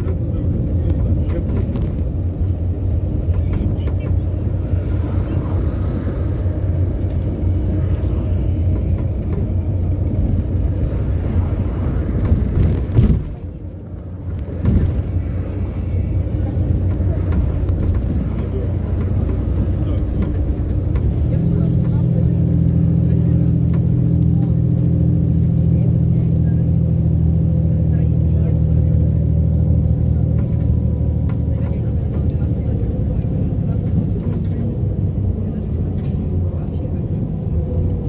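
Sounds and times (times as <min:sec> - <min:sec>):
bus engine and road rumble: 0:00.0 - 0:38.0.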